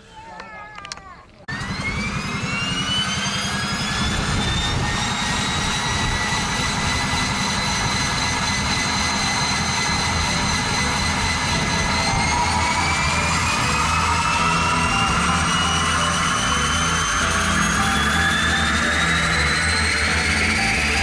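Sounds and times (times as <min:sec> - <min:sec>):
turboprop engine spooling up: 0:01.5 - 0:21.0.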